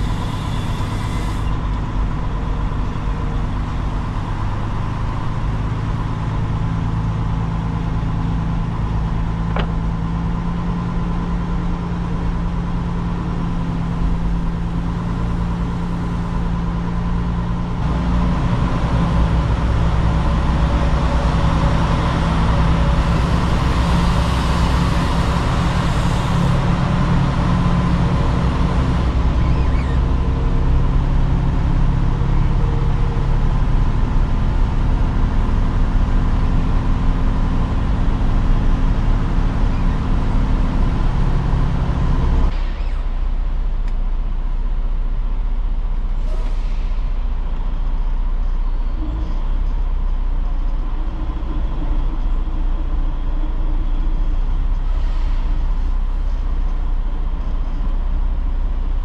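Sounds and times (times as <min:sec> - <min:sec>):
truck engine droning: 0:00.0 - 0:59.0
vehicle hum: 0:00.0 - 0:59.0.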